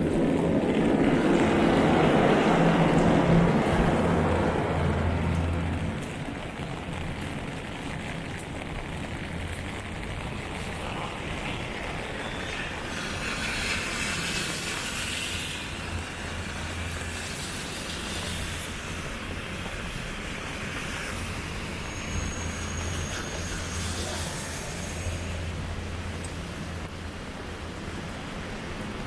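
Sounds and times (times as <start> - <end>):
heavy rain on pavement and umbrella: 0.0 - 29.0.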